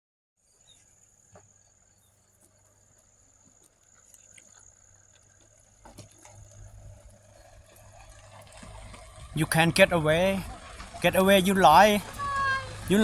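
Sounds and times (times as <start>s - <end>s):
insects trilling: 0.4s - 13.0s.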